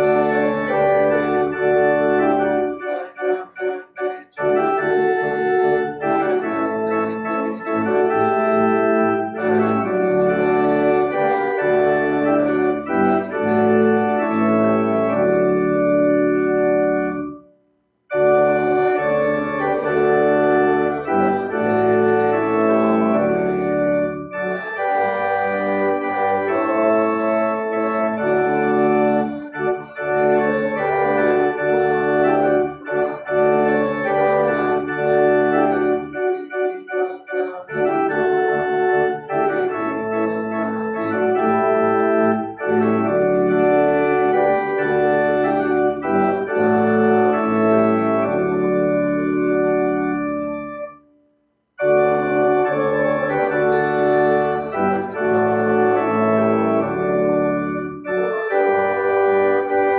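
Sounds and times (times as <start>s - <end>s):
organ playing a hymn: 0.0s - 17.5s, 18.1s - 51.1s, 51.8s - 59.9s.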